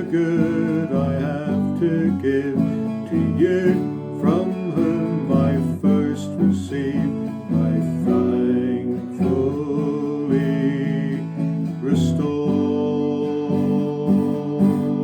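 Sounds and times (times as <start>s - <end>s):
person singing a hymn: 0.0s - 15.0s
strummed acoustic guitar: 0.0s - 15.0s.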